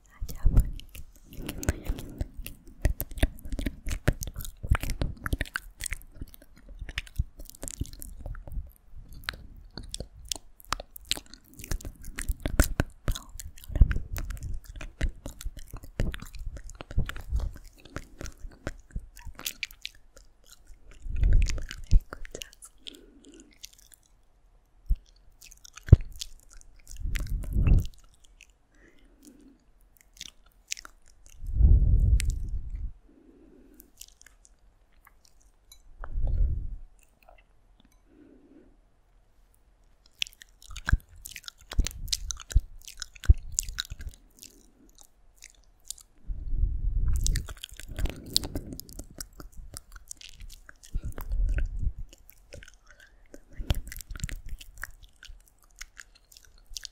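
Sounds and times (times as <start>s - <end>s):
wet mouth clicks and smacks: 0.0s - 24.2s, 24.8s - 28.6s, 29.2s - 32.9s, 33.7s - 38.0s, 39.8s - 46.2s, 47.0s - 56.9s.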